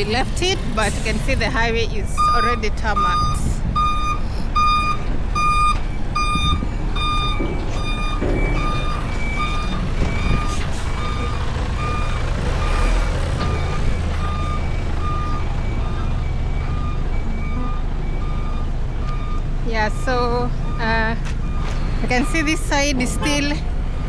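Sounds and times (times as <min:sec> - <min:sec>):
vehicle engine running: 0:00.0 - 0:03.6, 0:06.5 - 0:24.0
reversing alarm beeping: 0:00.0 - 0:24.0.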